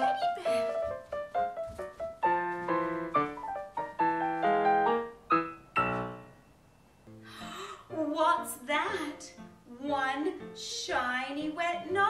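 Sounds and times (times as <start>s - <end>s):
solo piano music: 0.0s - 10.6s.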